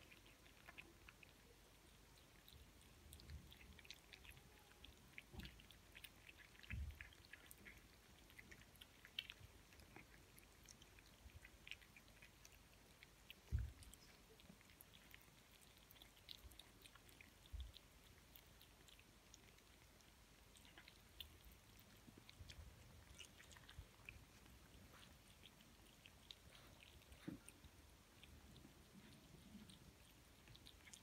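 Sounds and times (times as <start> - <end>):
kitten chewing: 0.0 - 31.0.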